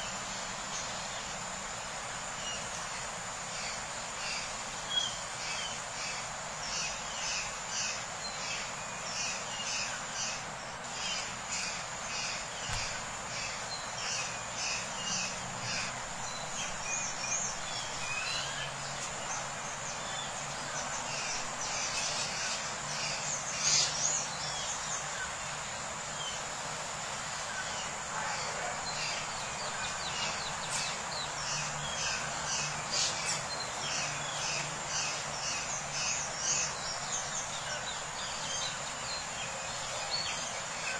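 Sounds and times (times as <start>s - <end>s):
background hiss: 0.0s - 40.9s
birds chirping: 0.0s - 40.9s.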